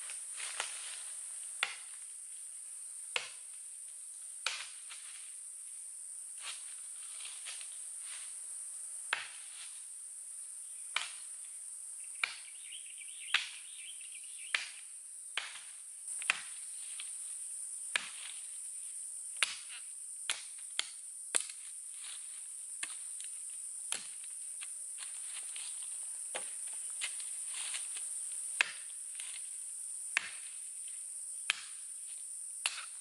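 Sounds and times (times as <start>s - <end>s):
insect chorus drone: 0.0s - 33.0s.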